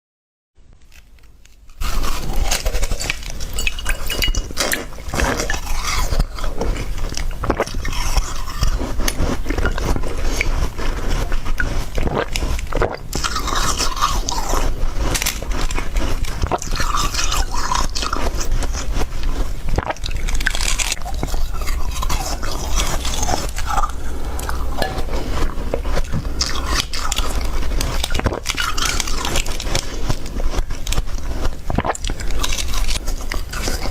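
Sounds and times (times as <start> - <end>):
ice being chewed: 0.8 - 33.9.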